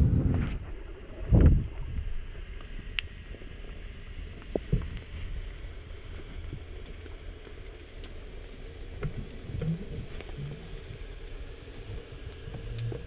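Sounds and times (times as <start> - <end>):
underwater rumble: 0.0 - 13.0
faint underwater clicks: 1.8 - 13.0.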